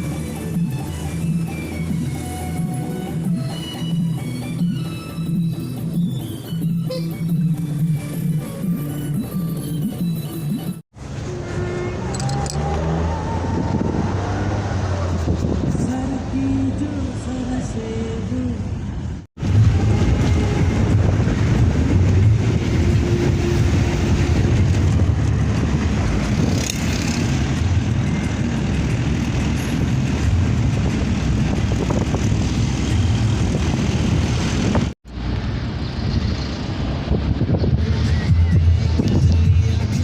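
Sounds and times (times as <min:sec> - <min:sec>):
vehicle road and engine rumble: 0:00.0 - 0:40.0.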